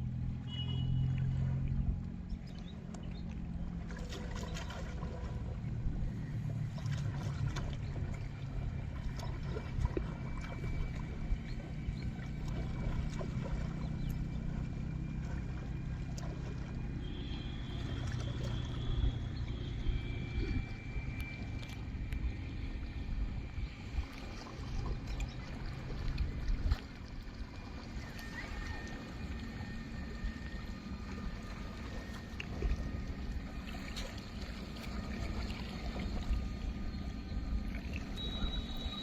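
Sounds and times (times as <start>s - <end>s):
low rumble: 0.0s - 39.0s
water sloshing and splashing: 0.0s - 39.0s.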